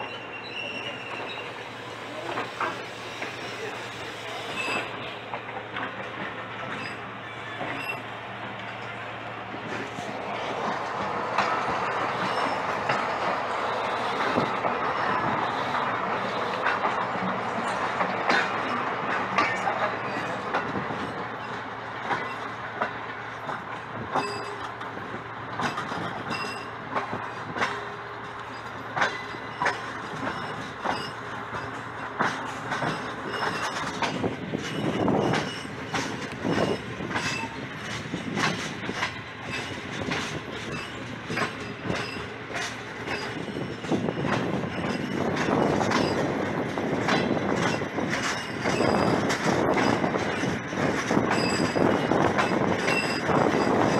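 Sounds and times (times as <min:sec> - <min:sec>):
train wheel and wind noise: 0:00.0 - 0:53.9
clicks and clanks over rails: 0:02.1 - 0:03.5, 0:04.6 - 0:53.9.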